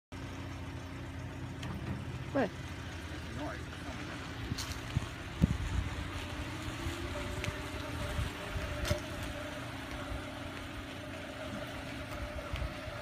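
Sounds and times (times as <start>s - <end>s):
car running noise: 0.1s - 13.0s.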